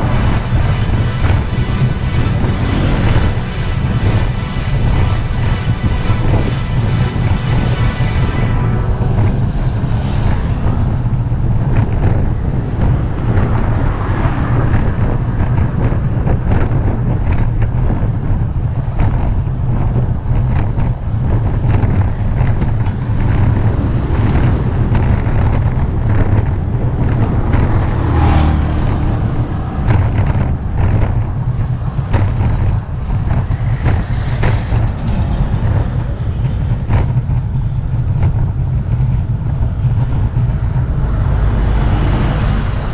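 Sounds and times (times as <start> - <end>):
road noise: 0.0 - 42.9
wind buffeting microphone: 0.0 - 42.9.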